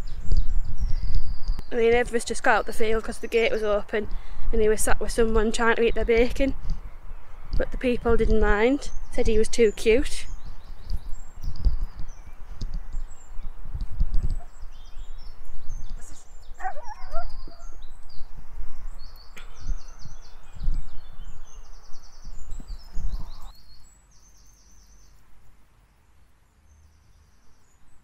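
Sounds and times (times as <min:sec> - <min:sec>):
wind buffeting microphone: 0:00.0 - 0:23.8
small birds chirping: 0:00.0 - 0:28.0.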